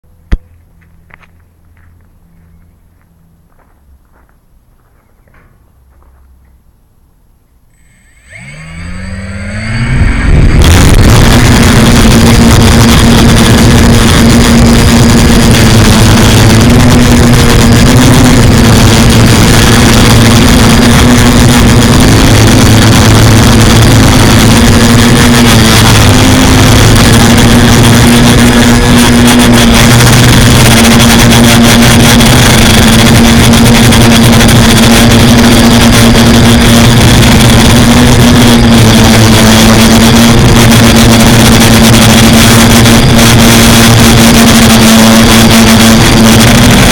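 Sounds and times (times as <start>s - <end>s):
drone propellers buzzing: 7.7s - 46.9s
rushing noise: 7.8s - 46.9s.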